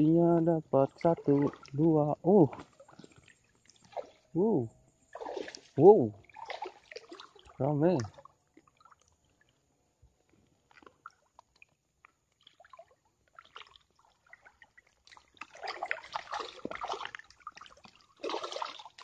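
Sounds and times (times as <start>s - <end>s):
water sloshing and splashing: 0.0s - 19.0s
water trickling and dripping: 0.0s - 19.0s.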